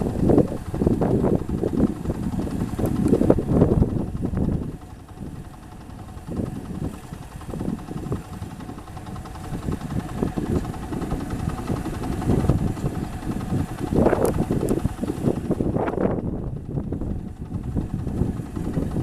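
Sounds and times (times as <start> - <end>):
harvester engine low rumble: 0.0 - 19.0.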